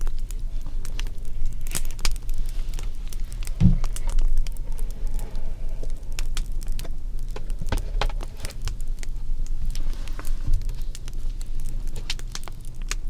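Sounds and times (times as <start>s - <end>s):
fire crackling: 0.0s - 13.0s
steady low hum: 0.0s - 13.0s.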